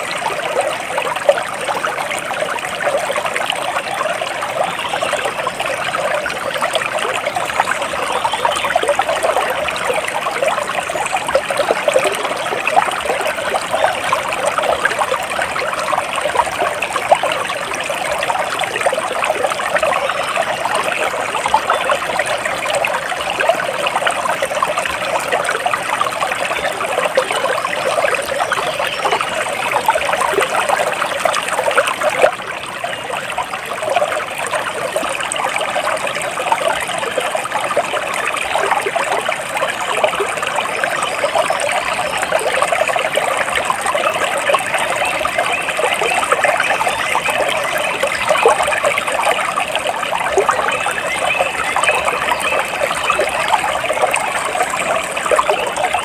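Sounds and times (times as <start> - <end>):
stream water babbling: 0.0 - 56.0.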